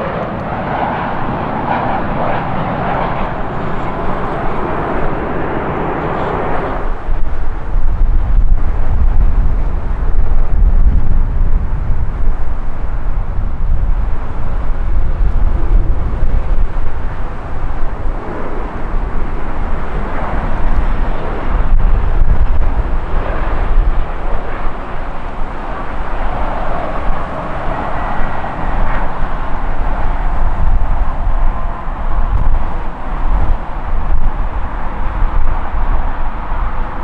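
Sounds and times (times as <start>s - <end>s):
deep rumble: 0.0s - 37.0s
jet engine noise: 0.0s - 37.0s
jet engine whine: 0.0s - 37.0s.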